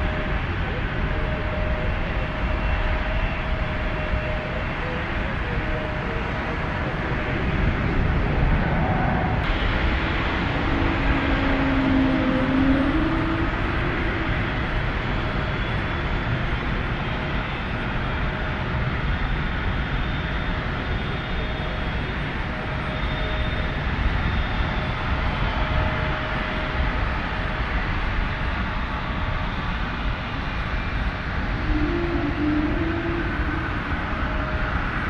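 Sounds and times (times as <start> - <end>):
airliner engines rumbling: 0.0 - 35.0
faint high engine whine: 0.0 - 35.0.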